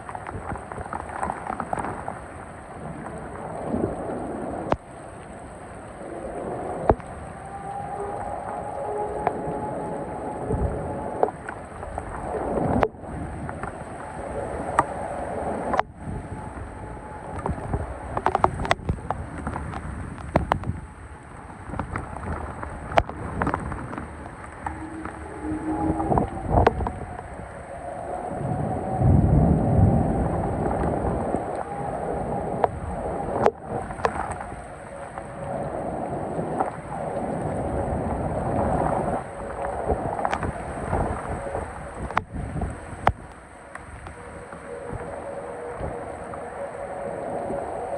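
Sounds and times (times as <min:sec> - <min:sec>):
distant tornado siren: 0:00.0 - 0:47.9
heavy rain: 0:00.0 - 0:47.9
wind buffeting microphone: 0:00.0 - 0:47.9.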